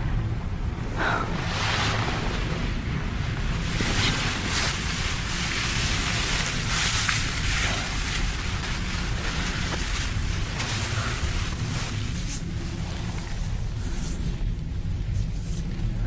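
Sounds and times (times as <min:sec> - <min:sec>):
low rumble: 0:00.0 - 0:16.0
wind: 0:00.0 - 0:16.0.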